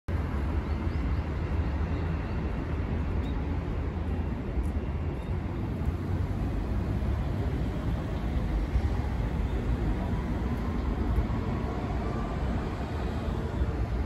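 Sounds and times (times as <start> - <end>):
road traffic hum: 0.1 - 14.0.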